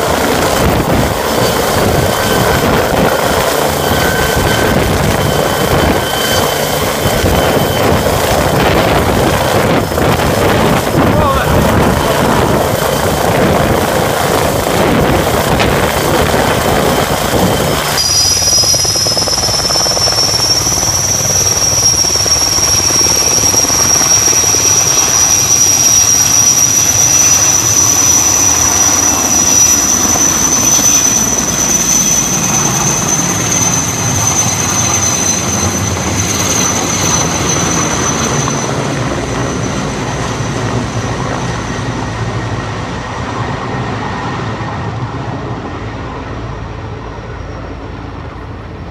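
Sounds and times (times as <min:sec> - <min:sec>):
helicopter rotor and engine: 0:00.0 - 0:48.9
high turbine whine: 0:00.0 - 0:48.9.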